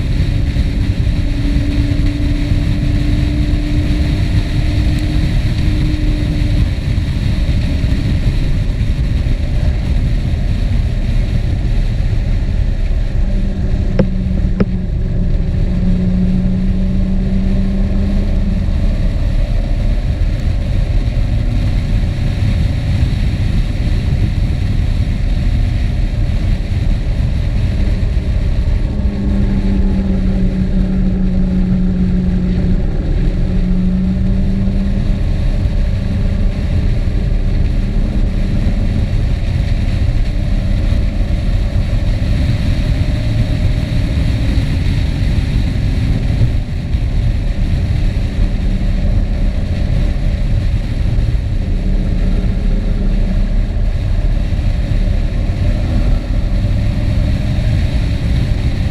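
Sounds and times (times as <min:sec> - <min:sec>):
vehicle engine running: 0:00.0 - 0:58.9
wind noise on microphone: 0:00.0 - 0:58.9.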